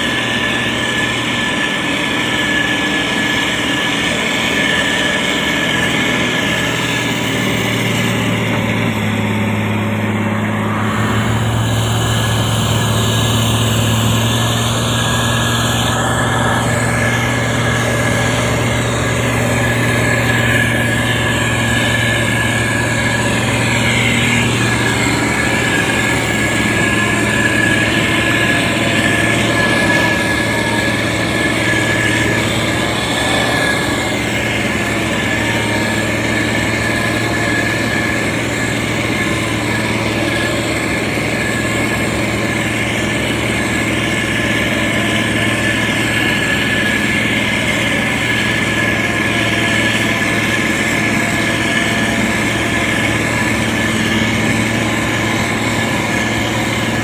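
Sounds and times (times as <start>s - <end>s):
diesel engine running: 0.0s - 57.0s
thin high whine: 0.0s - 57.0s.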